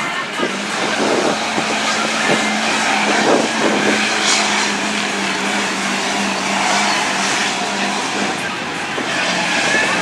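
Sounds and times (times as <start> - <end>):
truck engine at high revs: 0.0 - 10.0
tyres spinning through mud: 0.0 - 10.0.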